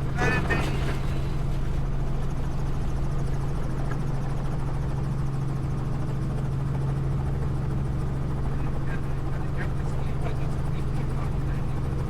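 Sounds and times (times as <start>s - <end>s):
helicopter engine and rotor droning: 0.0s - 12.0s.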